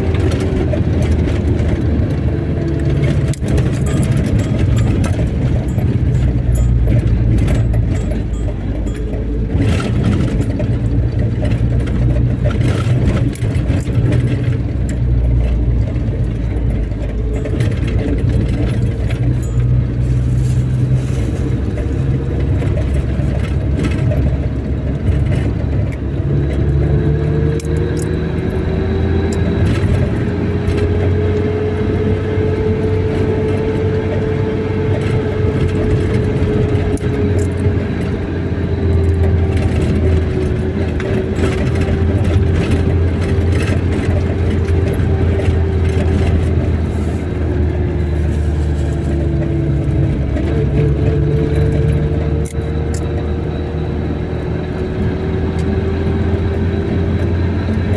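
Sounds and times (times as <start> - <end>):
car road and engine rumble: 0.0 - 57.9.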